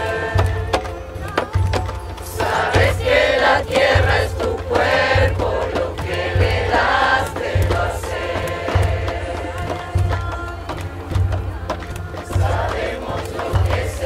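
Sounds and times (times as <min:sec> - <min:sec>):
group singing in unison: 0:00.0 - 0:14.0
low drum beat: 0:00.0 - 0:14.0.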